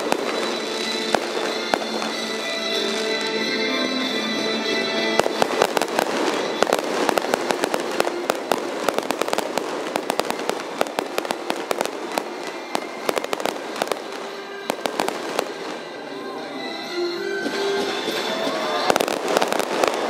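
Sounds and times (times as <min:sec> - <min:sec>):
fireworks bursts and crackling pops: 0:00.0 - 0:04.2, 0:05.0 - 0:20.0
music: 0:00.0 - 0:20.0.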